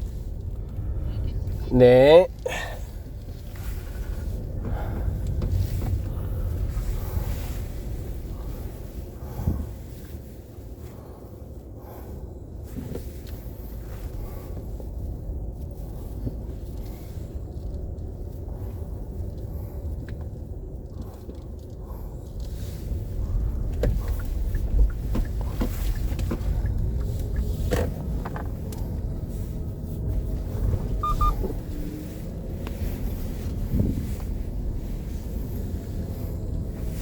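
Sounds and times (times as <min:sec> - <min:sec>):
vehicle rumble: 0:00.0 - 0:37.0.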